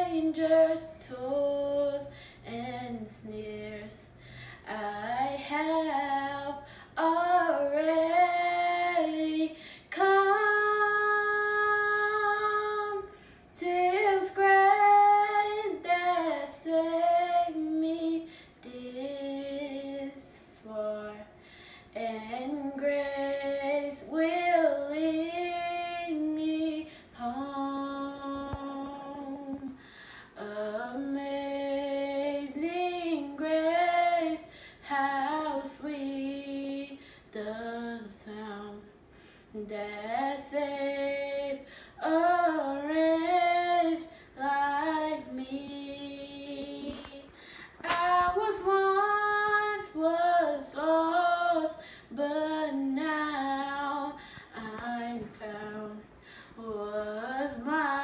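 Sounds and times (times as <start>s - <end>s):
young woman singing: 0.0s - 58.0s.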